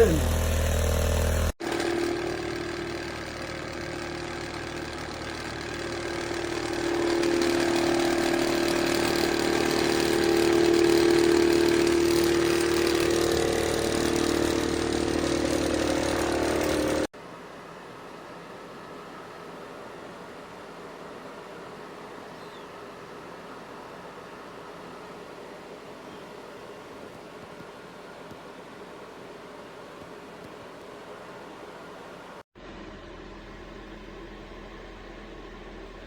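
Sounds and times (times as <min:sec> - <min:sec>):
fan heater whirring and humming: 0:00.0 - 0:36.0.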